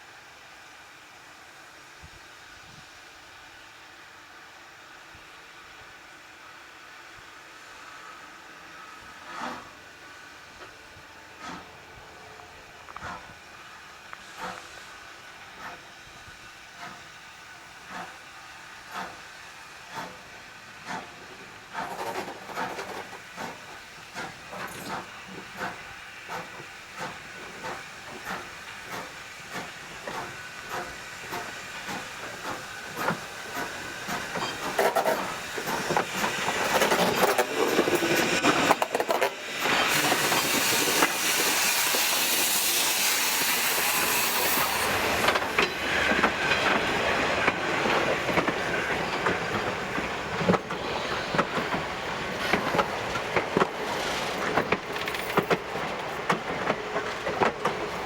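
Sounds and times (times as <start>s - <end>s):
loud hiss of steam: 0.0s - 58.0s
steam locomotive exhaust chuffs: 7.1s - 58.0s.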